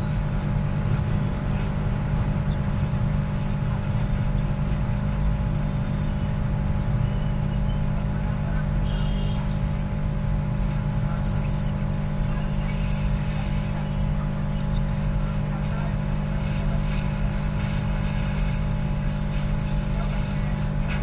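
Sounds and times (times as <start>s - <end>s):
hot-air blower hum: 0.0s - 21.0s.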